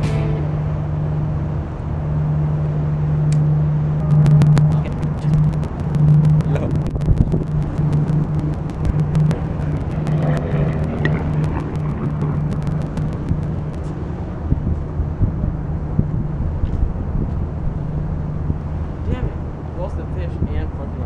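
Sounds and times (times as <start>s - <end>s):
low engine drone: 0.0s - 21.0s.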